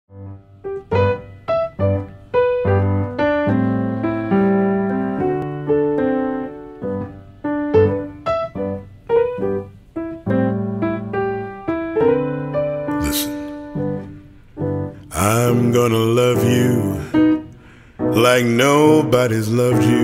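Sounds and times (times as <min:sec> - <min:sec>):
solo piano: 0:00.1 - 0:20.0.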